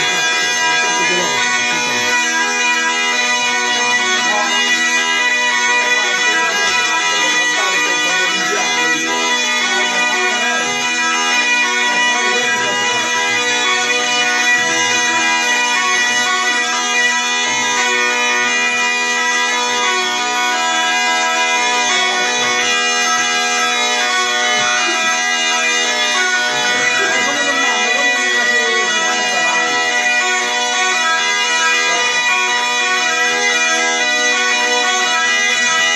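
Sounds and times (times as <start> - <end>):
bagpipe tune over a drone: 0.0 - 35.9.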